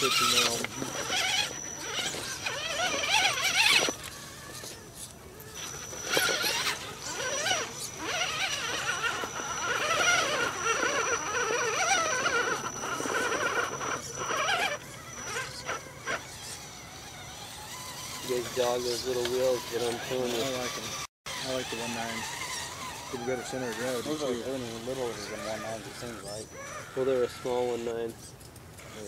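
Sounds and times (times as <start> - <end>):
thin steady high tone: 0.0 - 28.2
electric motor and gearing whining: 0.0 - 29.0.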